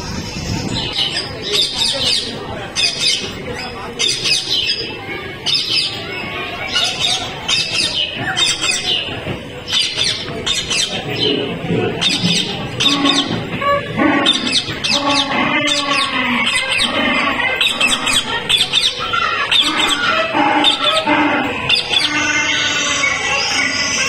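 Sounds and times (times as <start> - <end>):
harsh bird calls: 0.0 - 24.0.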